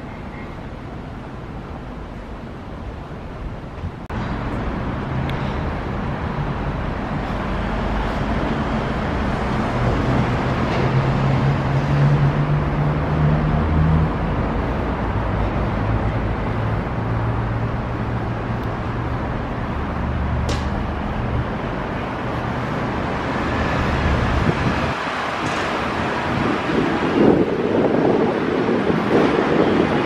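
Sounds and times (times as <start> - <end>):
city traffic noise: 0.0 - 30.0.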